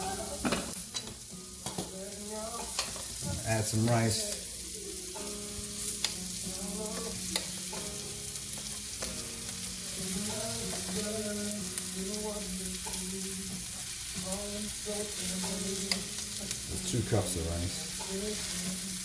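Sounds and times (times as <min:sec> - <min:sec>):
rice sizzling in a pan: 0:00.0 - 0:19.0.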